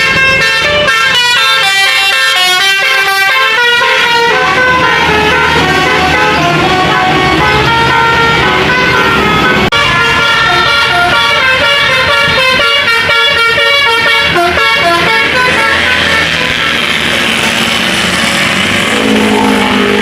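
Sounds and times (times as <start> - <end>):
musical air horn playing tune: 0.0 - 16.9.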